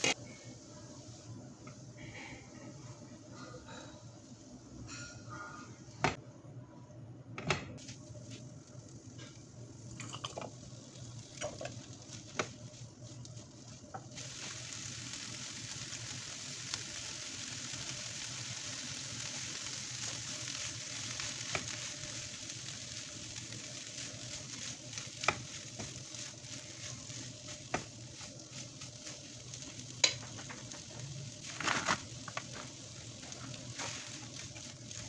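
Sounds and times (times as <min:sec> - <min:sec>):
vegetables sizzling in a frying pan: 0:00.0 - 0:06.0, 0:07.8 - 0:35.0.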